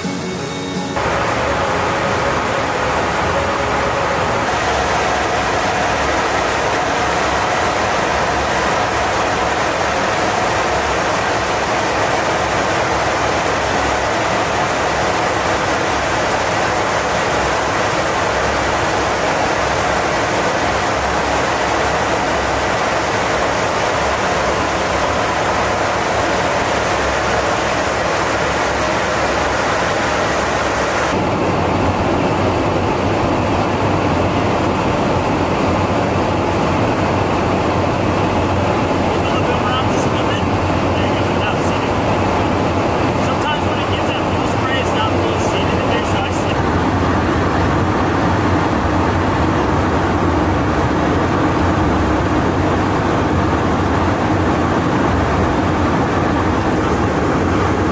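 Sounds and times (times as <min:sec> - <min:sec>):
airflow and jet engine rush: 0:00.0 - 0:57.9
faint steady whine: 0:00.0 - 0:57.9.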